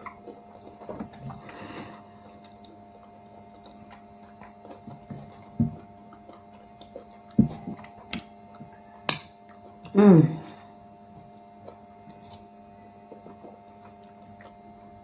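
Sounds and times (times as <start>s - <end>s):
person eating: 0.0s - 15.0s
steady electrical hum: 0.0s - 15.0s.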